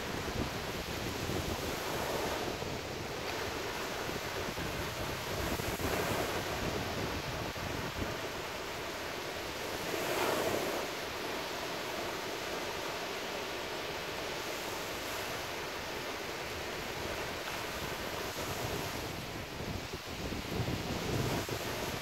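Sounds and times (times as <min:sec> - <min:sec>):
wind buffeting microphone: 0:00.0 - 0:13.2, 0:16.4 - 0:22.0
ocean surf breaking: 0:00.0 - 0:22.0.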